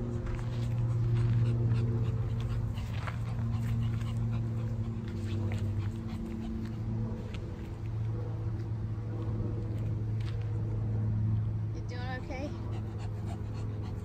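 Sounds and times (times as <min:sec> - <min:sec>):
dog panting: 0:00.0 - 0:09.9, 0:12.3 - 0:14.0
steady low drone: 0:00.0 - 0:14.0.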